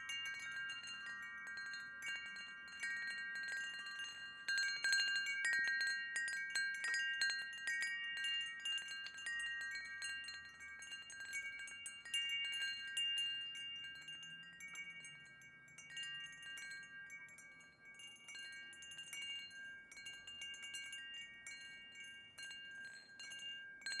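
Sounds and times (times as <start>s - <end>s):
chimes tinkling: 0.0s - 24.0s.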